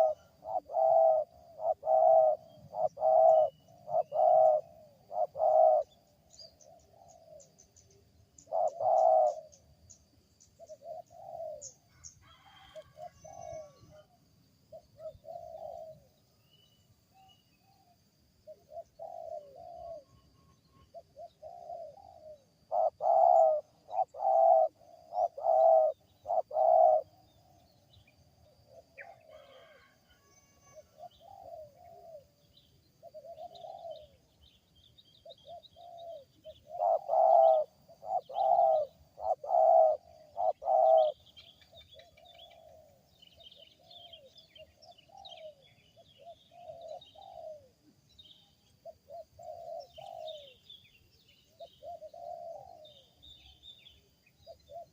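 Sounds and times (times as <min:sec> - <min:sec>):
dove cooing: 0:00.0 - 0:09.7, 0:10.6 - 0:16.2, 0:17.2 - 0:20.2, 0:20.9 - 0:27.8, 0:28.4 - 0:30.0, 0:30.6 - 0:32.4, 0:33.0 - 0:34.4, 0:35.2 - 0:47.9, 0:48.8 - 0:50.7, 0:51.5 - 0:54.9
small birds chirping: 0:00.0 - 0:29.7, 0:30.7 - 0:54.9.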